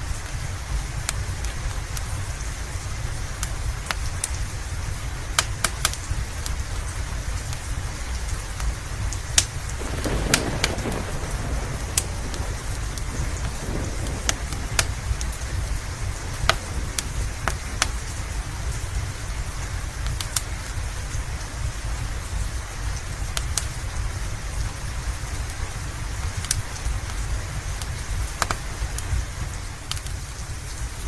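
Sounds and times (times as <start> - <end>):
low constant rumble: 0.0 - 31.0
steady rain: 0.0 - 31.0
wood fire crackling and popping: 3.0 - 31.0.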